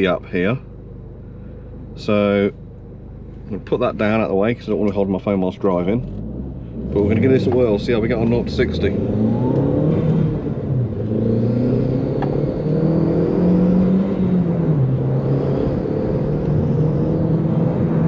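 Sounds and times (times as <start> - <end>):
car engine accelerating hard: 3.4 - 18.0.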